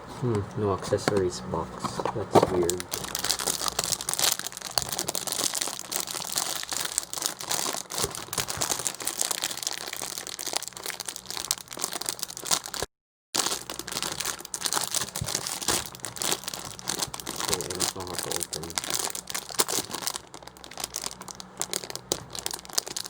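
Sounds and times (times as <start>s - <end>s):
plastic packaging crinkling: 0.8s - 23.0s.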